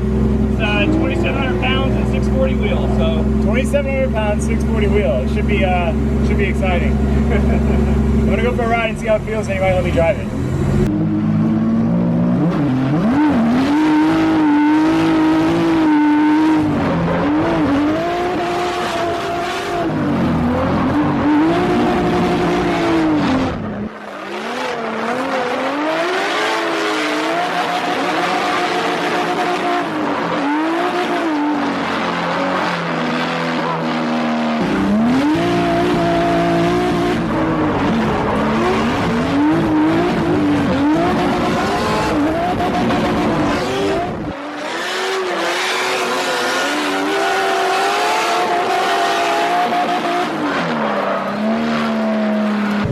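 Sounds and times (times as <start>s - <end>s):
car engine revving hard: 0.0s - 52.9s.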